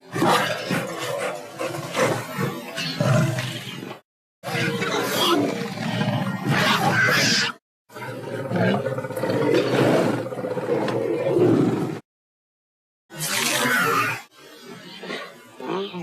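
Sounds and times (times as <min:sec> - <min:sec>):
creature roaring and snarling: 0:00.0 - 0:12.0, 0:13.1 - 0:14.3.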